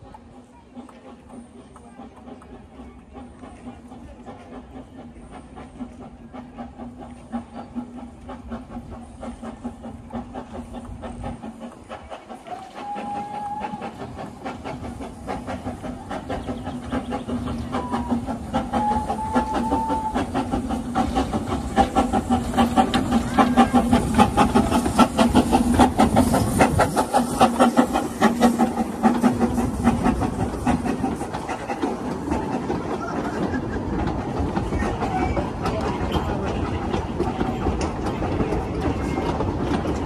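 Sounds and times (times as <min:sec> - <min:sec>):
steam locomotive hissing: 0:00.0 - 0:40.0
wheels clicking over rail joints: 0:00.0 - 0:40.0.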